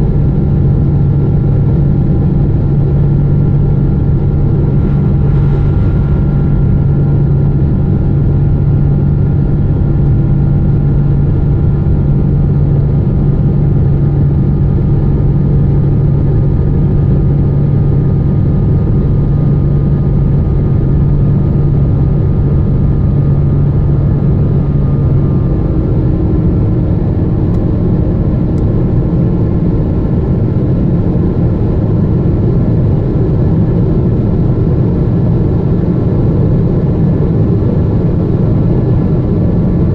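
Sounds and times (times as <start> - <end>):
airplane engine and airflow noise: 0.0 - 39.9
low cabin hum: 0.0 - 39.9.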